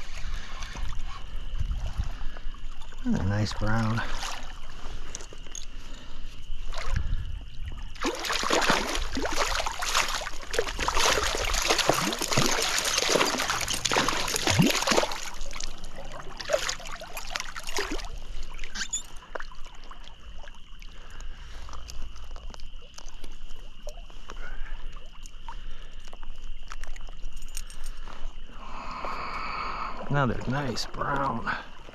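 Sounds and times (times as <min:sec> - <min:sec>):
fish thrashing and splashing: 0:00.0 - 0:28.4
water lapping: 0:00.0 - 0:31.9.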